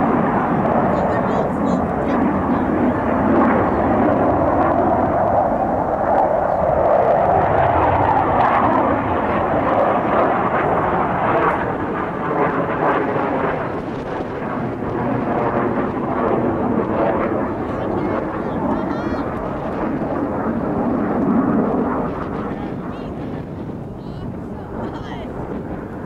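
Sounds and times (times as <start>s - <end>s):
loud jet engine noise: 0.0s - 26.0s.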